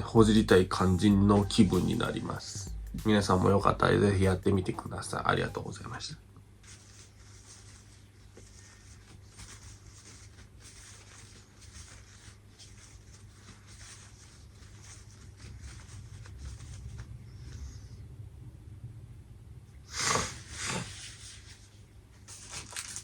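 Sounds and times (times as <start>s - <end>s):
rustling and scratching: 0.0s - 18.0s, 19.9s - 23.0s
low steady hum: 0.0s - 23.0s.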